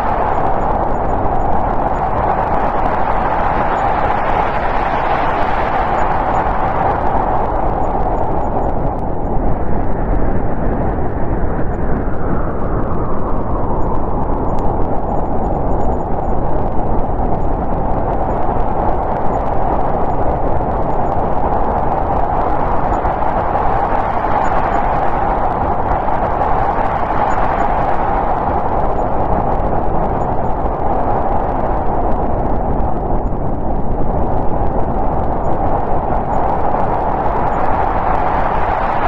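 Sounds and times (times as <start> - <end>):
snowstorm wind blowing: 0.0 - 39.0.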